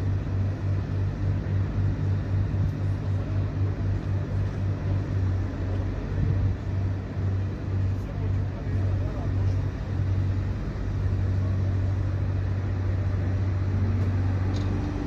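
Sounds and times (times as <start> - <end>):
diesel lorry engine idling: 0.0 - 15.0.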